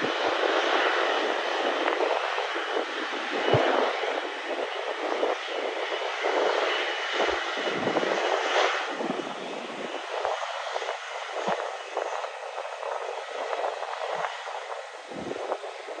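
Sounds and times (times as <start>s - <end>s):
faint high engine whine: 0.0s - 16.0s
jet engines roaring: 0.0s - 16.0s.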